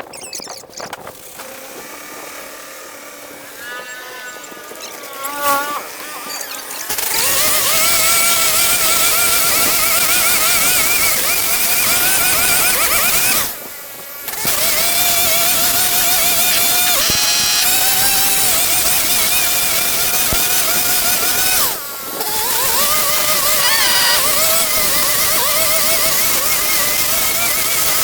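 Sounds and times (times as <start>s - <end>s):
small petrol engine running: 0.2s - 28.0s.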